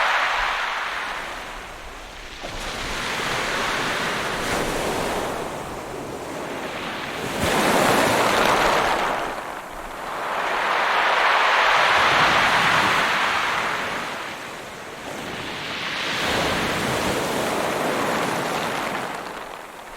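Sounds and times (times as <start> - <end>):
ocean waves breaking: 0.0 - 19.9.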